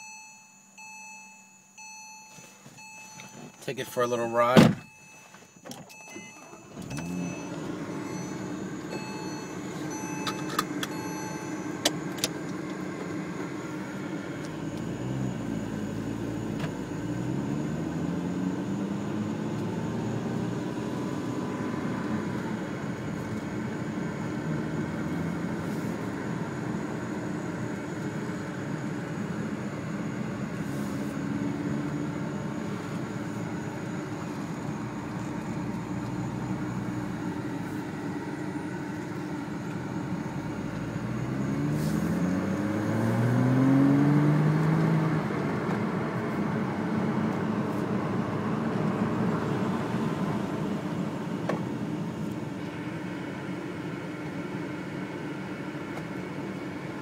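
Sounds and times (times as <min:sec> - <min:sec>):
car engine running: 0:02.3 - 0:57.0
road noise: 0:02.3 - 0:57.0.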